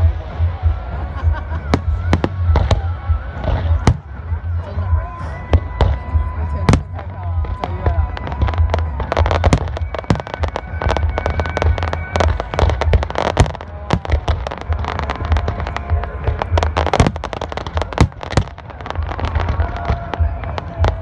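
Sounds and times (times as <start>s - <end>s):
fireworks bangs and crackling: 0.0s - 21.0s
low rumble: 0.0s - 21.0s.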